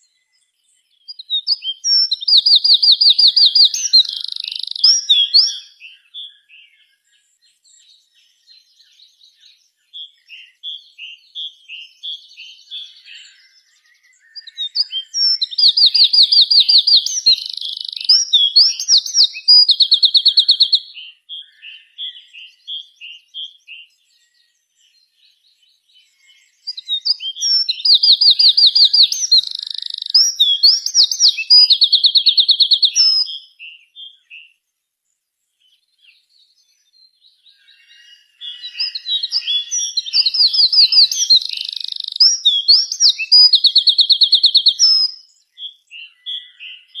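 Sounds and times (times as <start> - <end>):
soft bird chirps: 0.0 - 47.0
songbird trilling song: 0.0 - 47.0.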